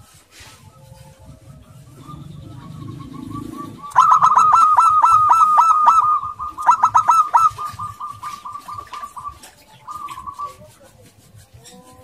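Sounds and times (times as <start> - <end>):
dove cooing: 0.7 - 10.9.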